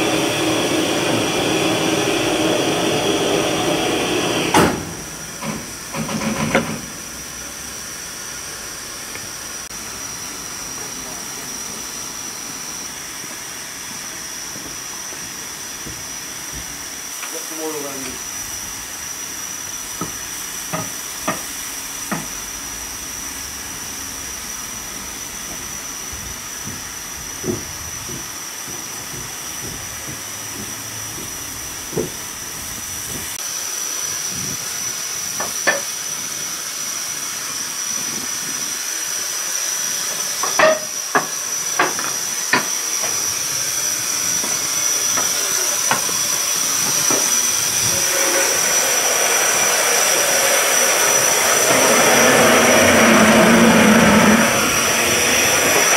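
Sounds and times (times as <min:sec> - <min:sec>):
steam hissing: 0:00.0 - 0:55.9.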